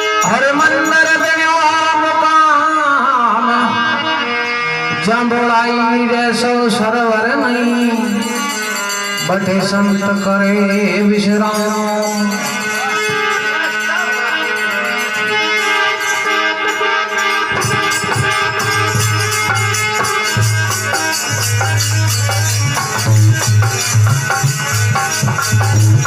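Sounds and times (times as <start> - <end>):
rattling percussion: 0.0 - 2.3, 7.4 - 26.0
held instrumental melody: 0.0 - 26.0.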